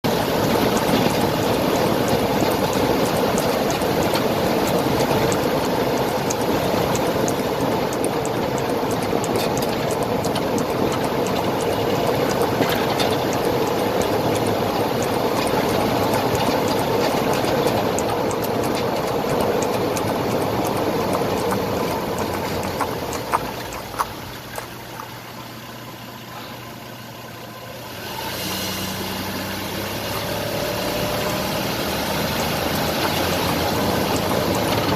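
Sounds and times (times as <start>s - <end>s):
steady low hum: 0.0s - 34.9s
vehicle road noise: 0.0s - 34.9s.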